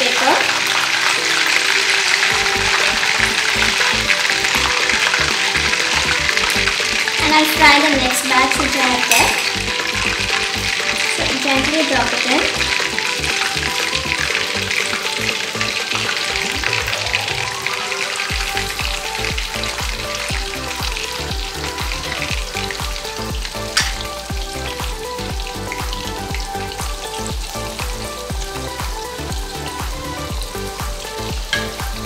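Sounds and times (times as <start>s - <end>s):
hot oil sizzling and bubbling: 0.0s - 32.0s.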